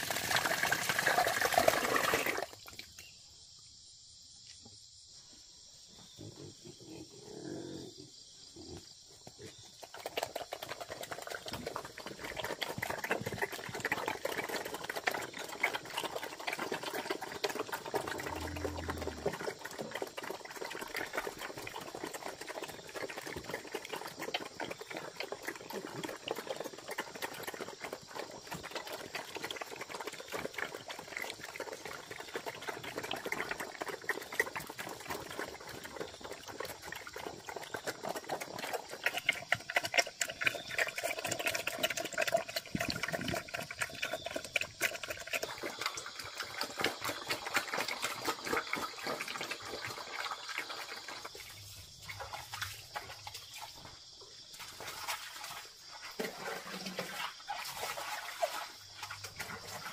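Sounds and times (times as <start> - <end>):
pigs slurping and chewing: 0.0 - 3.0, 9.2 - 59.9.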